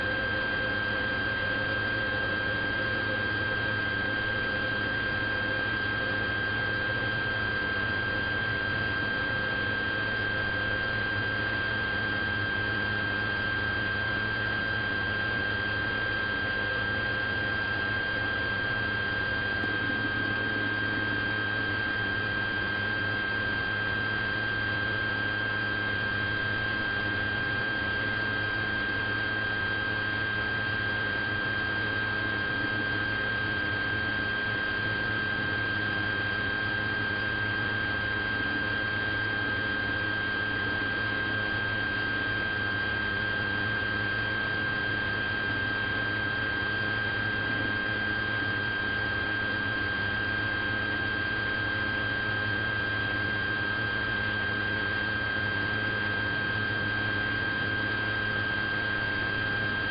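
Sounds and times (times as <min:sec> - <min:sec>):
high-pitched whine: 0:00.0 - 0:59.9.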